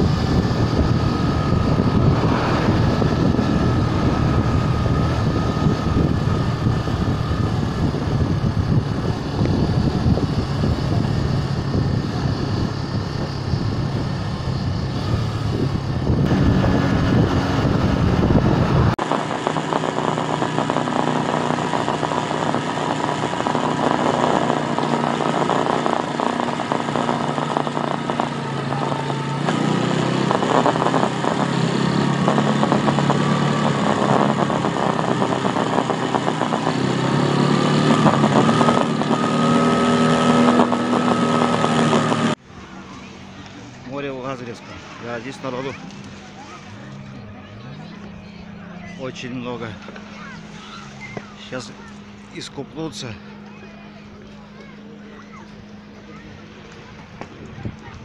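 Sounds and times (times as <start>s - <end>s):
motorcycle engine running: 0.0s - 58.0s
town traffic: 0.0s - 58.0s.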